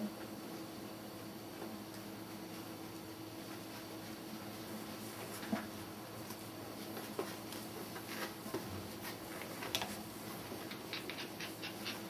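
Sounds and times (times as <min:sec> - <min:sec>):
puppies scuffling with light clicks: 0:01.6 - 0:12.0.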